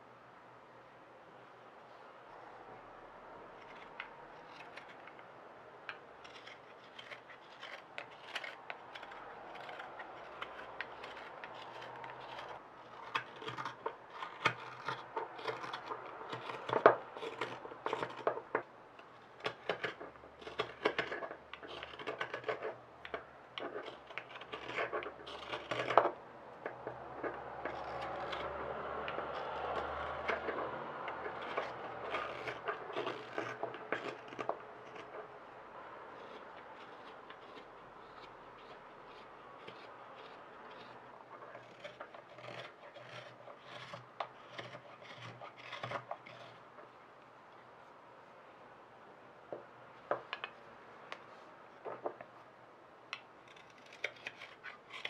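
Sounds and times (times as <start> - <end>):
knife scraping wood: 3.4 - 47.0, 53.2 - 55.0.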